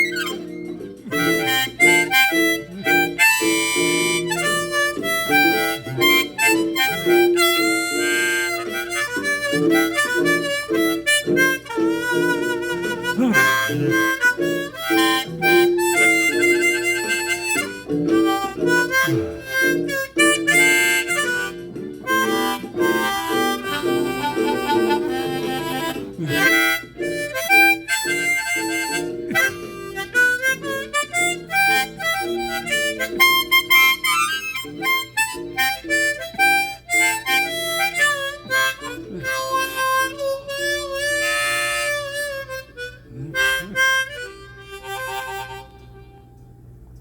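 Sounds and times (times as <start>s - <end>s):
harmonica playing gospel: 0.0s - 46.5s
steady backing low notes: 0.0s - 47.0s.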